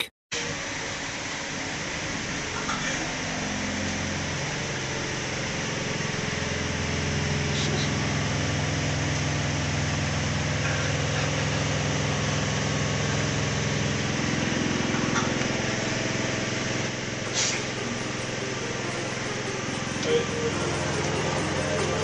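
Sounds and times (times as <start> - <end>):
train engine drone: 0.0 - 22.0.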